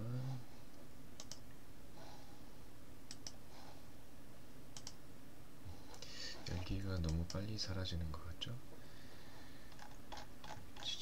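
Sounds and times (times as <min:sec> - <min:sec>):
microphone hiss: 0:00.0 - 0:09.7.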